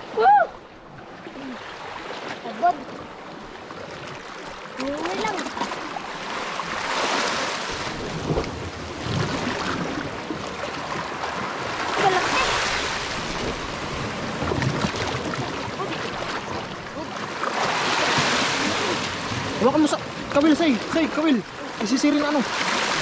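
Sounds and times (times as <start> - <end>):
waves on rocky shore: 0.0 - 23.0.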